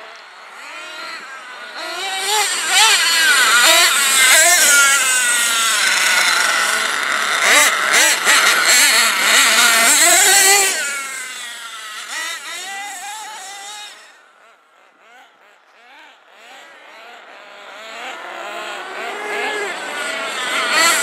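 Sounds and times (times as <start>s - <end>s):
high-pitched nitro engine revving: 0.0s - 21.0s.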